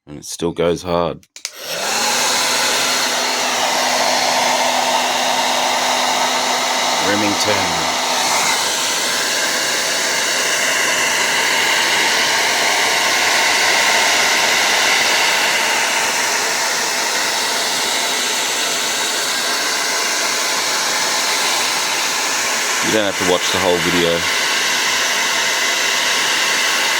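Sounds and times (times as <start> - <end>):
hair dryer blowing: 1.4 - 26.9.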